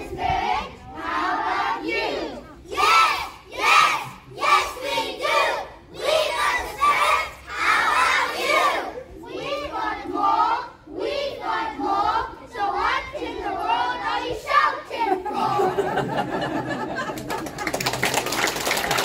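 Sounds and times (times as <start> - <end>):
children chanting and shouting: 0.0 - 16.5.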